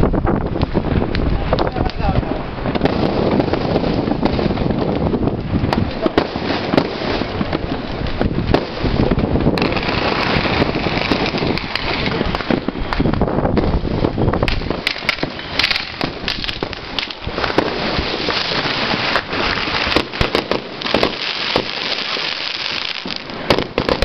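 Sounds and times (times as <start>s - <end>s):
fireworks bangs and crackling: 0.0s - 24.0s
fireworks hissing: 0.5s - 24.0s.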